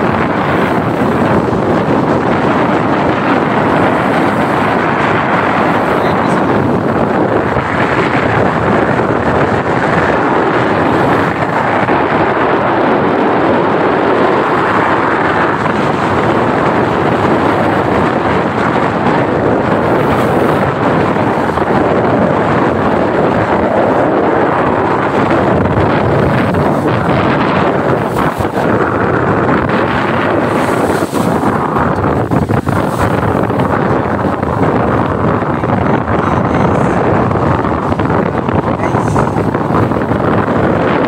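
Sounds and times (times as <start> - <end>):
boat moving through rough water: 0.0 - 41.0
wind buffeting microphone: 0.0 - 41.0.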